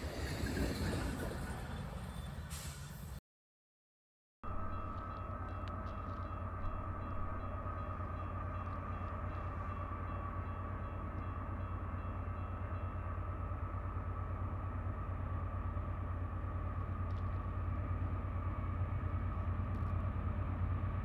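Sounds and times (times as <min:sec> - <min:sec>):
train engine rumble: 0:00.0 - 0:03.2, 0:04.5 - 0:21.0.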